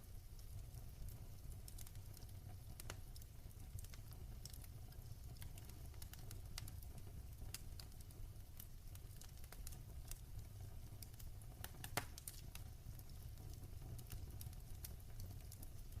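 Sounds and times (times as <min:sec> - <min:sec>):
fireplace fire crackling: 0:00.0 - 0:16.0
fire pops: 0:00.3 - 0:10.2, 0:11.0 - 0:15.8.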